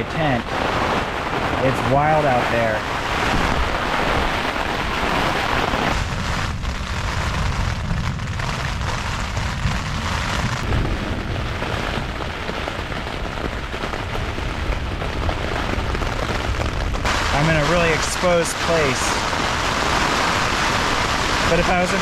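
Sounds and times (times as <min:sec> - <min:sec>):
heavy rain pelting a tent: 0:00.0 - 0:22.0
wind buffeting microphone: 0:00.0 - 0:22.0.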